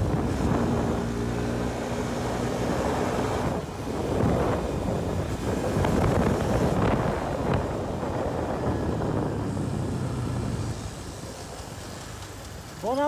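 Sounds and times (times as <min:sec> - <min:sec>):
motorcycle engine hum: 0:00.0 - 0:13.0
wind rushing over microphone: 0:00.0 - 0:13.0.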